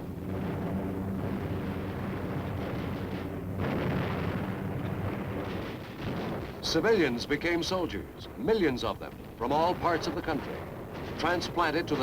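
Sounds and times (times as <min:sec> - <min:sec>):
explosions and artillery fire: 0:00.1 - 0:12.0.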